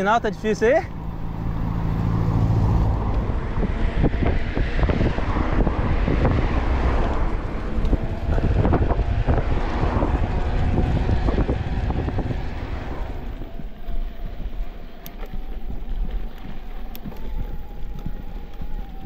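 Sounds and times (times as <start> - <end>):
tyre noise on dirt trail: 0.0 - 19.0
wind buffeting microphone: 0.0 - 19.0.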